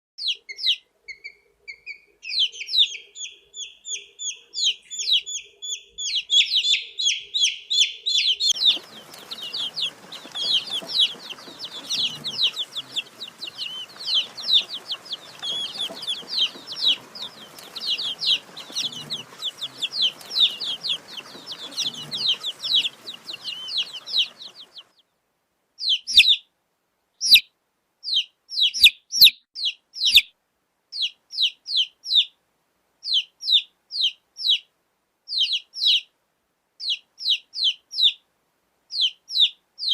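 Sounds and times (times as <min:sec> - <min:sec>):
baby chicks peeping: 0:00.2 - 0:25.0, 0:25.8 - 0:26.5, 0:27.2 - 0:30.3, 0:30.9 - 0:32.4, 0:33.0 - 0:34.7, 0:35.3 - 0:36.1, 0:36.8 - 0:38.2, 0:38.9 - 0:39.9
low background hiss: 0:00.3 - 0:28.6, 0:29.8 - 0:39.9.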